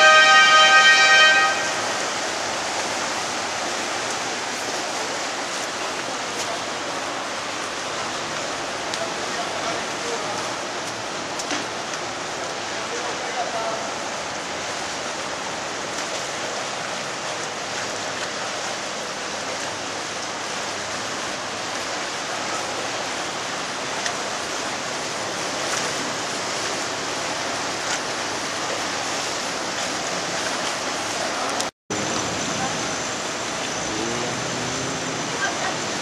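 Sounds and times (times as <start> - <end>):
water rushing along boat hull: 0.0 - 36.0.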